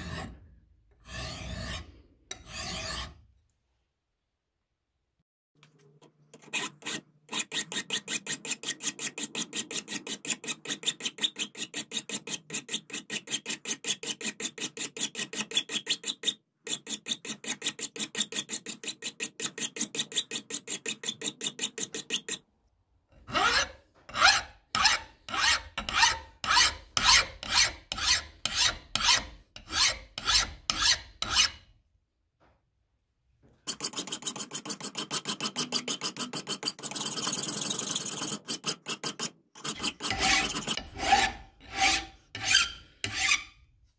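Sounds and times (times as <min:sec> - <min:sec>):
hand file rasping on metal: 0:01.0 - 0:03.2, 0:06.4 - 0:22.4, 0:23.3 - 0:31.7, 0:33.7 - 0:43.6.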